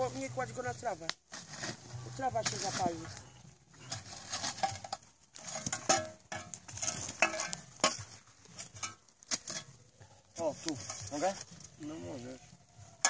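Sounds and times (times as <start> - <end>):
campfire crackling and snapping: 0.0 - 13.0
fire sizzle: 0.0 - 13.0.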